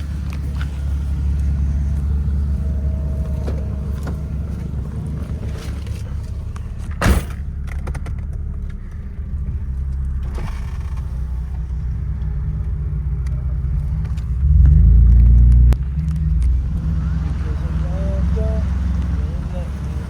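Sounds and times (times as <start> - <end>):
car engine and road rumble: 0.0 - 20.0
loud low rumble: 0.0 - 20.0.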